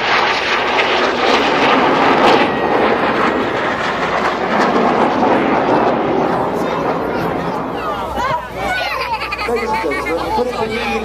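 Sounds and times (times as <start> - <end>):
jets passing: 0.0 - 11.0.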